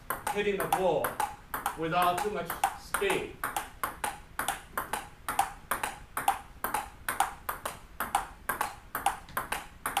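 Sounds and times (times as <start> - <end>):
table tennis ball clicking: 0.0 - 10.0.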